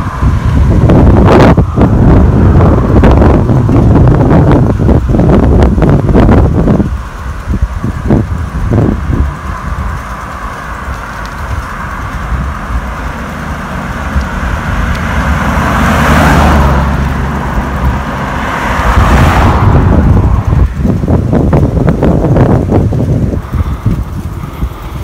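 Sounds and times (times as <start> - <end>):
car rushing by: 0.0 - 25.0
van passing: 0.0 - 25.0
wind rumble on microphone: 0.0 - 25.0.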